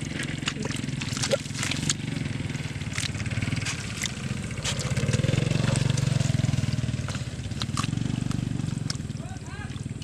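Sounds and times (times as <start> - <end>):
small engine running: 0.0 - 9.2
hands squelching in mud: 0.0 - 10.0.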